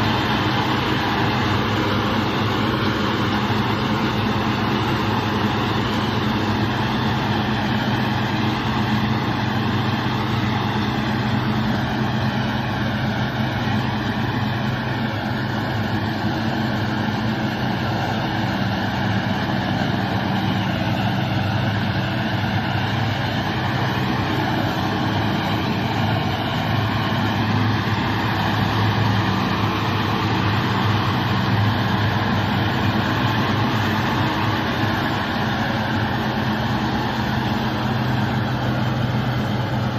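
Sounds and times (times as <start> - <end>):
baler pickup and rollers working: 0.0 - 39.9
tractor diesel engine running: 0.0 - 39.9.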